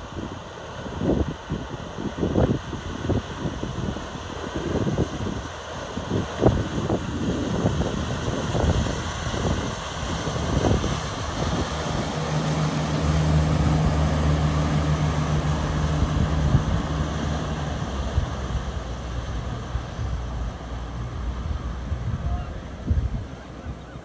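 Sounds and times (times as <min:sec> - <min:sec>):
low engine hum: 0:00.0 - 0:24.0
wind buffeting microphone: 0:00.0 - 0:24.0.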